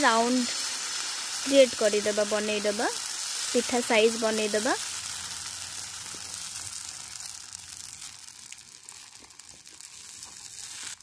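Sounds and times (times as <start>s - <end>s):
batter sizzling on a griddle: 0.0s - 11.0s
faint crackles: 0.0s - 11.0s.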